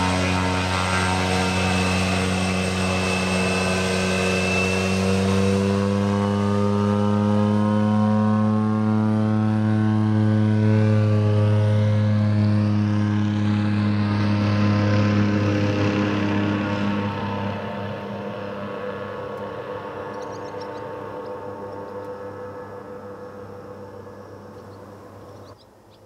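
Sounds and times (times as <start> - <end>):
turboprop propeller drone: 0.0 - 25.9.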